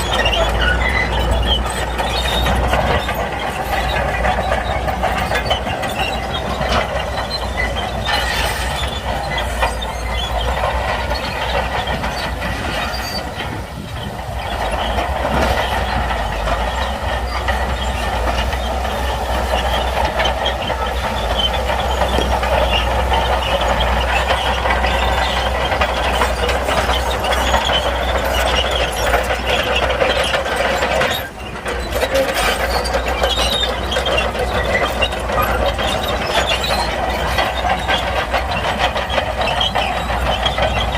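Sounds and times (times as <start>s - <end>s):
bulldozer engine rumble: 0.0s - 40.9s
steel tracks grinding over stone: 0.0s - 40.9s.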